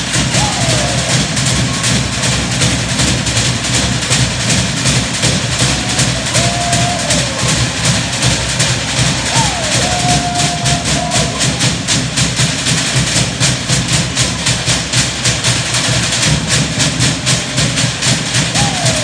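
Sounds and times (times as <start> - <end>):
log drums beaten fast: 0.0 - 19.0.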